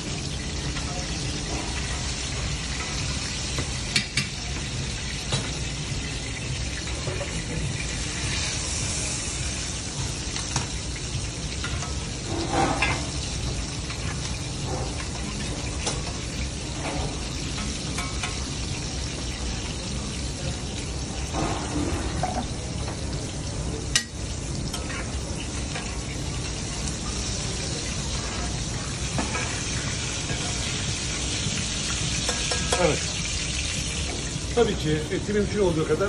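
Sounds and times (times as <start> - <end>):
steak sizzling in a pan: 0.0 - 36.0.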